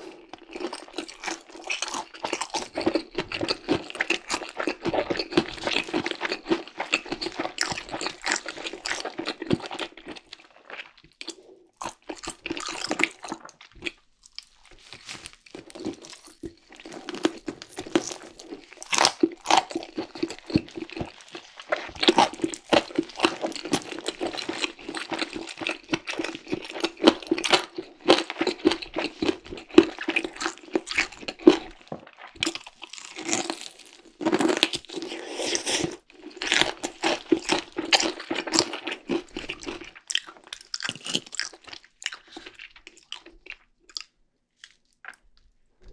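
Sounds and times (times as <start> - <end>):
chewing crunchy fried chicken: 0.0 - 45.9.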